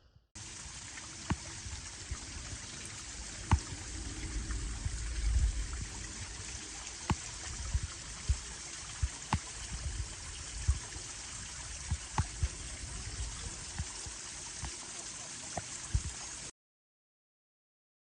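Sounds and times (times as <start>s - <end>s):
stream water rushing: 0.4s - 16.5s.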